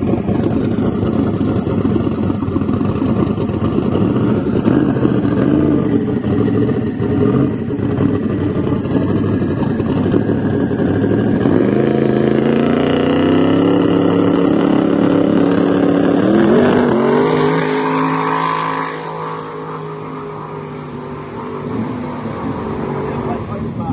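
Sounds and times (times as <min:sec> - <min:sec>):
car engine revving hard: 0:02.6 - 0:23.6.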